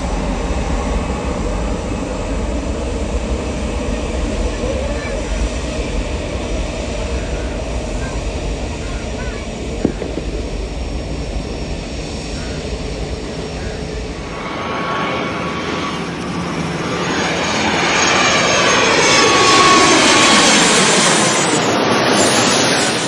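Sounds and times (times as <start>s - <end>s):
distant jet engines rumbling: 0.0s - 23.0s
jet aircraft flying past: 0.0s - 23.0s.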